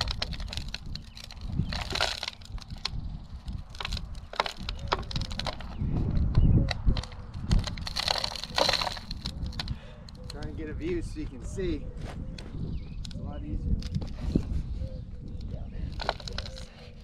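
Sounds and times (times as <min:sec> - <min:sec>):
plastic pipe clicks and creaks: 0:00.0 - 0:10.6, 0:12.4 - 0:14.5, 0:15.2 - 0:17.0.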